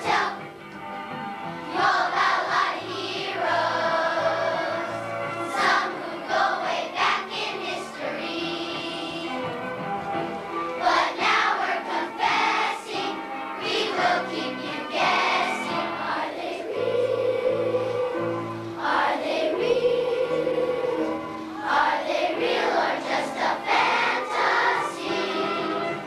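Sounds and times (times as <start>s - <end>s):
children's choir singing: 0.0s - 0.5s, 1.6s - 9.6s, 10.7s - 26.0s.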